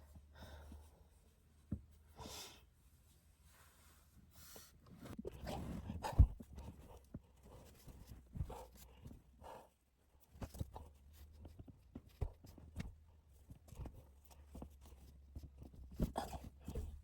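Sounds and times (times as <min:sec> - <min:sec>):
soft rustling: 0:02.7 - 0:17.0.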